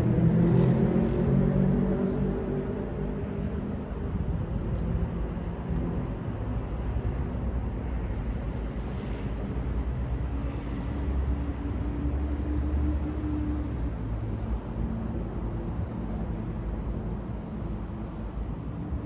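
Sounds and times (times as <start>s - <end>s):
traffic rumble: 0.0s - 19.0s
vehicle engine hum: 0.0s - 19.0s.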